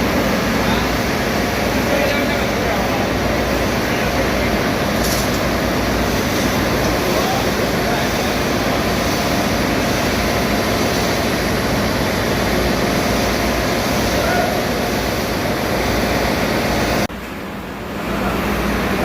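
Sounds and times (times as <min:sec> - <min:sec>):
engine room machinery roar: 0:00.0 - 0:19.0.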